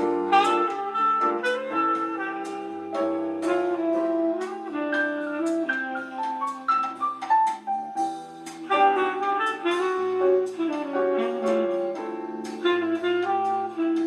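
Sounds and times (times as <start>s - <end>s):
light percussion: 0.0s - 14.0s
saxophone melody: 0.0s - 14.0s.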